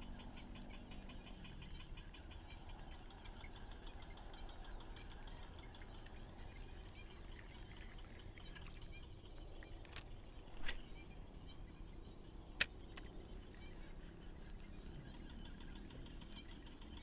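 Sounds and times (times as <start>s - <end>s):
high insect drone: 0.0s - 17.0s
insects and birds chirping: 0.0s - 17.0s.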